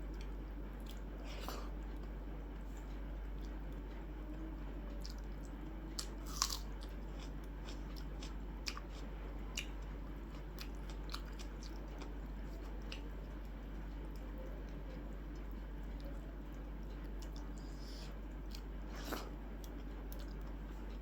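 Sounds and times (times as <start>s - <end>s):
chewing with crisp crunches: 0.0s - 4.0s, 4.6s - 21.0s.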